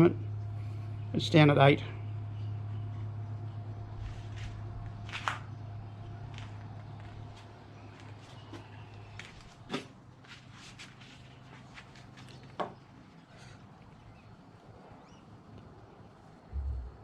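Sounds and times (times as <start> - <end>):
low steady hum: 0.0 - 10.4, 11.0 - 17.0.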